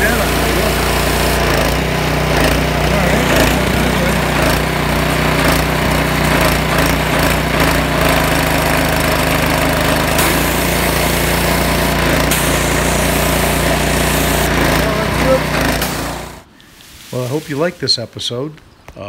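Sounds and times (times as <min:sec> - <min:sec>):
high-pressure water spraying hiss: 0:00.0 - 0:01.8, 0:02.4 - 0:18.1
small engine running: 0:00.0 - 0:16.5.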